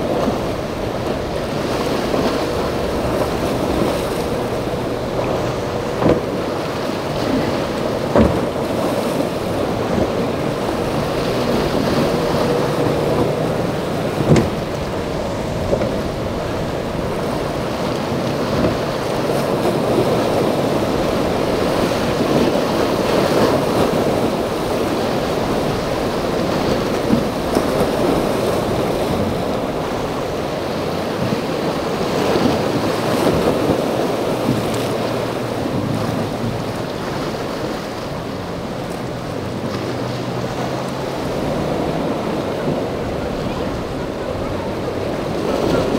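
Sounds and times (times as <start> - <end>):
outboard motor running: 0.0 - 45.9
waves breaking: 0.0 - 45.9
wind buffeting microphone: 0.0 - 45.9.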